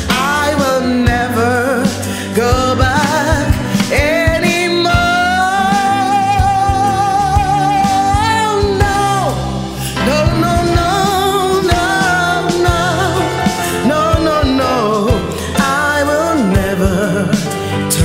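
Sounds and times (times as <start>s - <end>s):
instrumental accompaniment with beat: 0.0s - 18.0s
woman singing gospel song: 0.0s - 18.0s.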